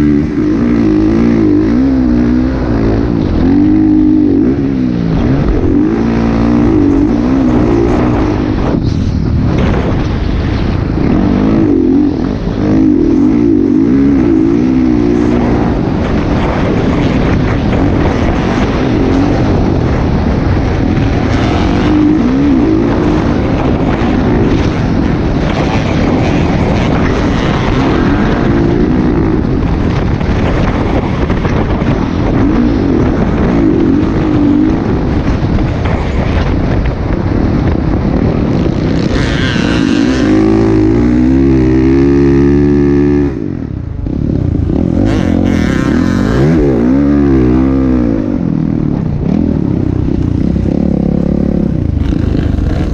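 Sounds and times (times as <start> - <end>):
motocross bike engines revving: 0.0 - 52.9.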